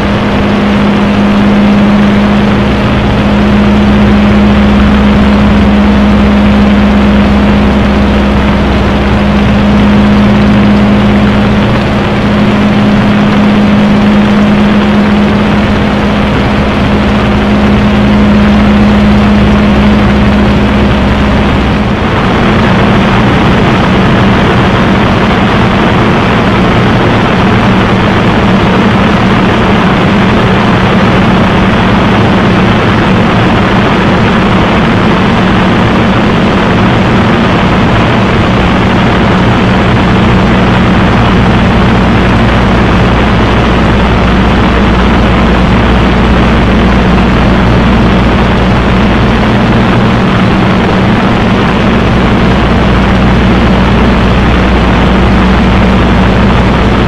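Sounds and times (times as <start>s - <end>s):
propeller aircraft engine drone: 0.0s - 57.0s
rushing air: 0.0s - 57.0s.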